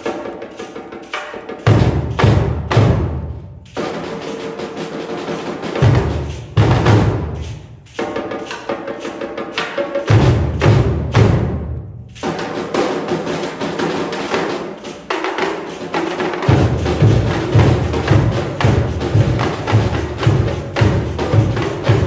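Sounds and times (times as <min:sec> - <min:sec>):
samba percussion ensemble: 0:00.0 - 0:22.0.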